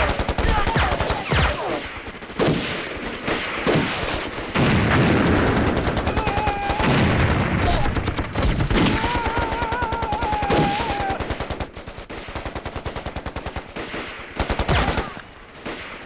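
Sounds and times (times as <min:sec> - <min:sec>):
machine-gun fire: 0:00.0 - 0:16.0.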